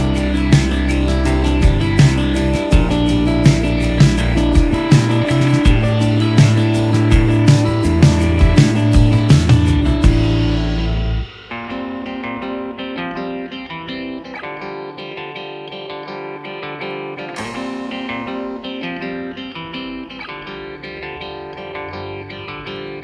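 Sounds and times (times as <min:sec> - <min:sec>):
plucked guitar music: 0:00.0 - 0:23.0.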